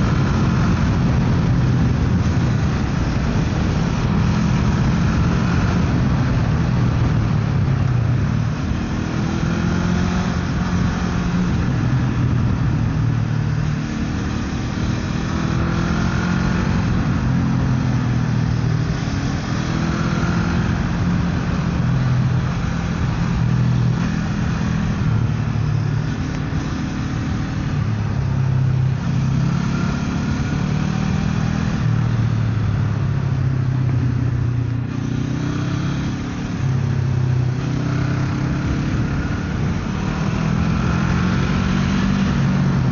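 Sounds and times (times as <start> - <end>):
motorcycle engine running: 0.0 - 42.9
steady rushing noise: 0.0 - 42.9.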